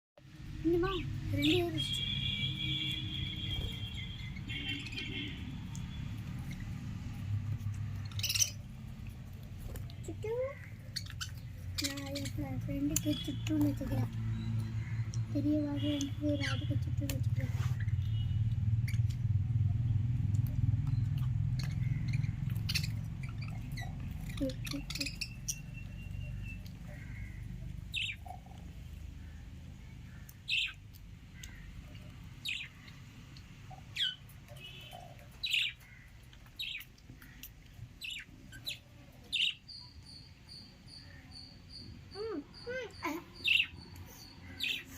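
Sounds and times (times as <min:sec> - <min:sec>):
lovebirds chirping: 0:00.6 - 0:44.9.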